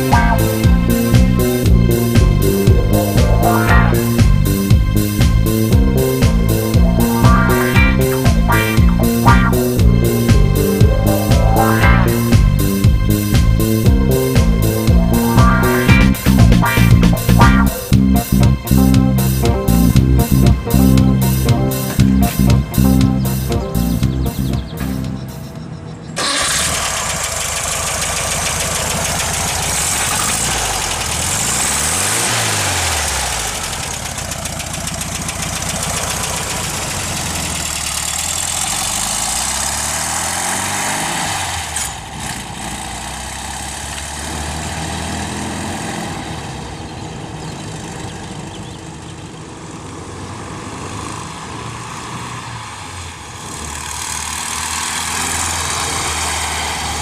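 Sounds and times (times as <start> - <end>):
car engine revving: 0.0 - 46.7, 50.9 - 57.0.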